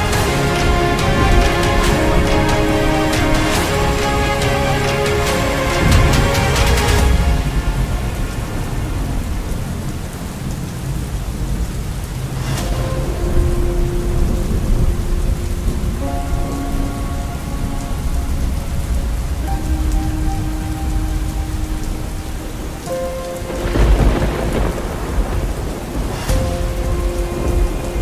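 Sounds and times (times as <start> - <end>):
heavy rain: 0.0 - 28.0
soft background music: 0.0 - 28.0
thunder crack: 0.0 - 28.0
thunder rumbling: 0.0 - 28.0.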